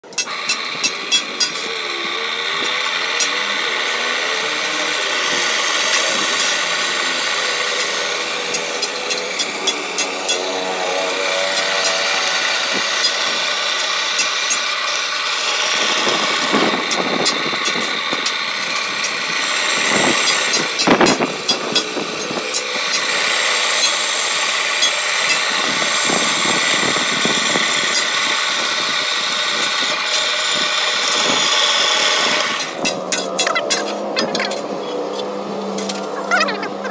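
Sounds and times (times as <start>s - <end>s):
drill bit cutting steel: 0.0s - 34.7s.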